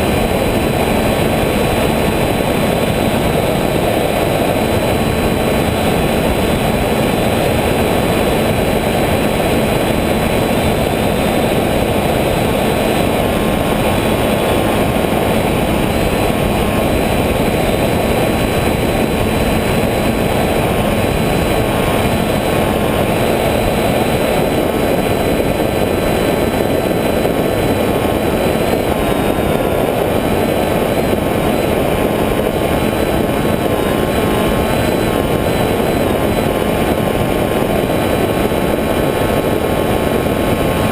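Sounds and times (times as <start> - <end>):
propeller and motor noise: 0.0 - 40.9
rushing wind: 0.0 - 40.9.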